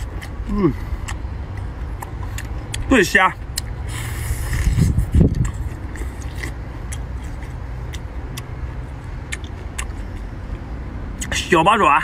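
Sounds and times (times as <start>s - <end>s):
person chewing wetly: 0.0s - 10.4s
steady low rumble: 0.0s - 11.4s.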